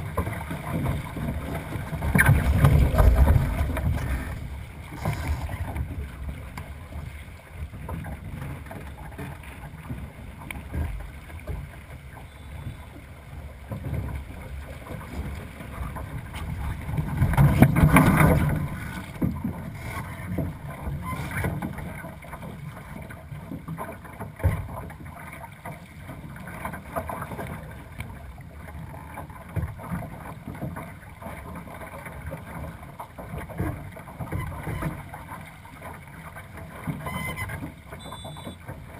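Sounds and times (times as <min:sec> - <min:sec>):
water rushing along a hull: 0:00.0 - 0:38.9.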